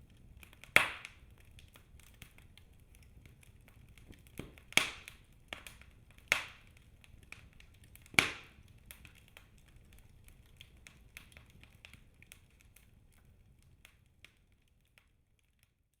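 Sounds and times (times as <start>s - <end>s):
loud fire snaps: 0.0s - 15.9s
wood fire crackling: 0.0s - 16.0s.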